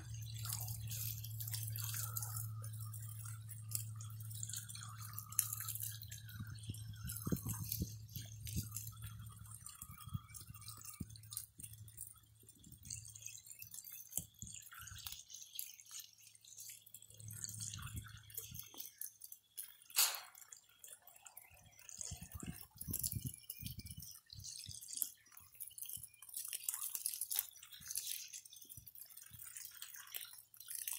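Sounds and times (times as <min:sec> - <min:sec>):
small water splashes: 0:00.0 - 0:30.9
water trickling from hose nozzle: 0:00.0 - 0:30.9.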